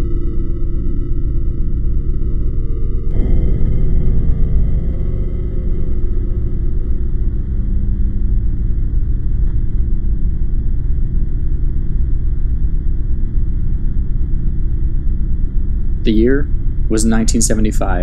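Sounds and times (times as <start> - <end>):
low ambient drone: 0.0 - 18.0.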